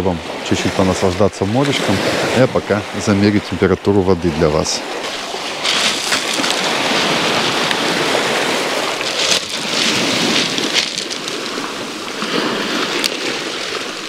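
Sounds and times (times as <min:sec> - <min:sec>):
waves washing over pebbles: 0:00.1 - 0:14.0.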